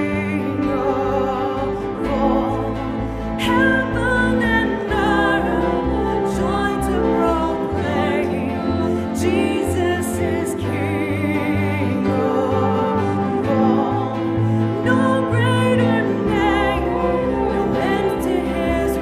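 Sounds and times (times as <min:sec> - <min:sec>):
instrumental accompaniment: 0:00.0 - 0:19.0
person singing with vibrato: 0:00.0 - 0:19.0.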